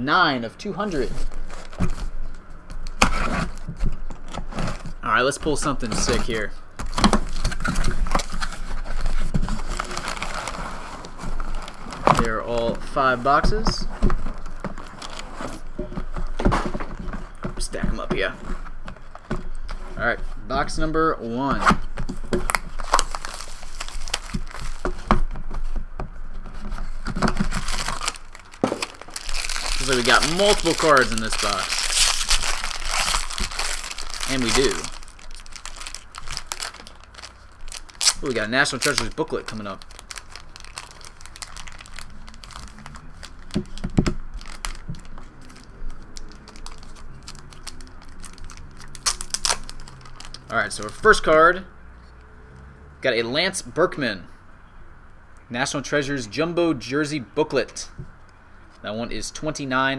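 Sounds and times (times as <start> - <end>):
packaging crinkling and scraping: 0.8 - 19.9, 21.8 - 51.3.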